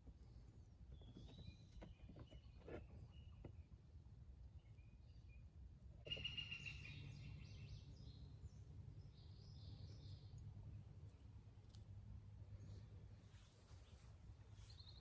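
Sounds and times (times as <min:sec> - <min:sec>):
small birds chirping: 0:00.0 - 0:03.8, 0:04.5 - 0:11.3, 0:12.5 - 0:15.0
low background hum: 0:00.0 - 0:15.0.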